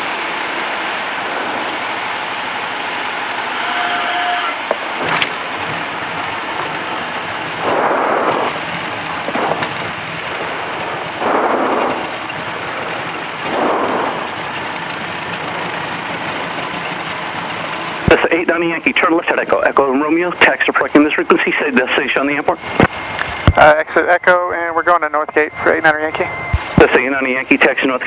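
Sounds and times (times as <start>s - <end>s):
light aircraft cockpit noise: 0.0s - 28.0s.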